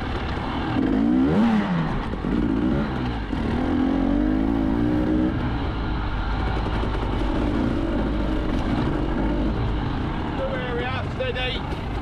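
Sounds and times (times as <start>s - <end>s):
constant rushing noise: 0.0s - 12.0s
motorcycle engine revving: 0.0s - 12.0s.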